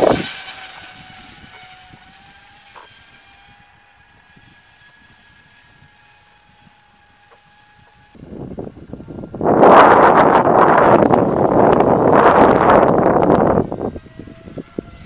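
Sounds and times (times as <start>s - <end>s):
model glider propeller whine: 0.0s - 15.0s.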